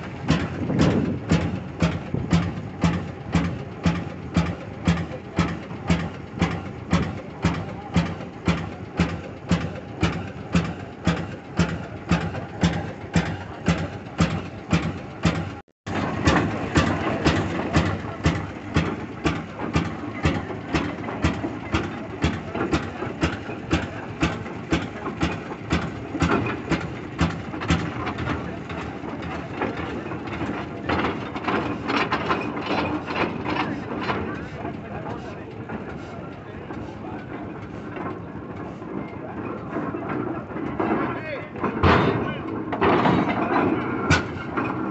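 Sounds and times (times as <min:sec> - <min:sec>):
faster engine beat: 0:00.0 - 0:40.9
old engine exhaust beats: 0:00.0 - 0:44.9.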